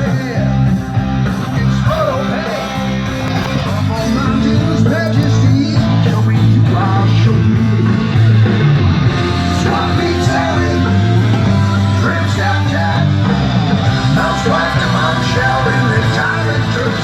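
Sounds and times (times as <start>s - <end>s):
rock song over speakers: 0.0s - 17.0s.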